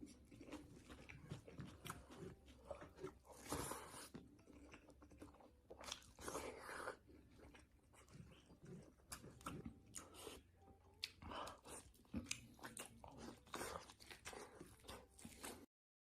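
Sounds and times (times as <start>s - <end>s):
chewing and biting food: 0.0s - 15.7s.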